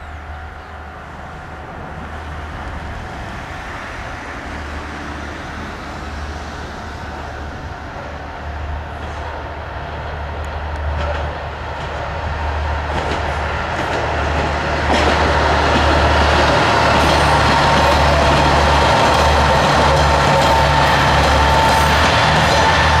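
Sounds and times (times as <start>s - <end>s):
diesel railcar engine drone: 0.0s - 23.0s
train track running noise: 0.0s - 23.0s.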